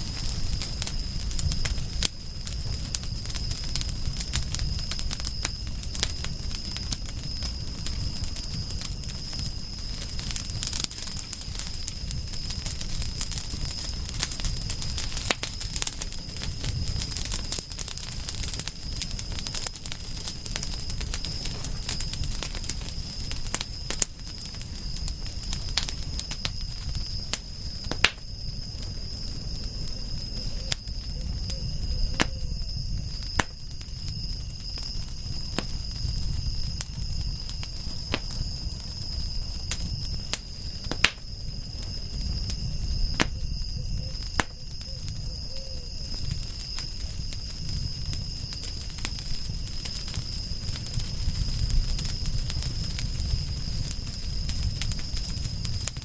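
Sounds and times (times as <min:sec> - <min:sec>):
burning wood popping: 0:00.0 - 0:56.0
campfire crackling: 0:00.0 - 0:56.0
high insect trill: 0:00.0 - 0:56.0.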